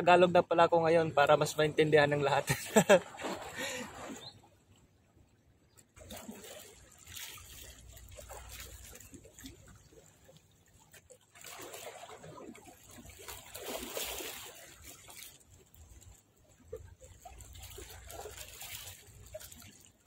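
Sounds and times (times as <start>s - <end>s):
small waves lapping: 0.0s - 20.0s.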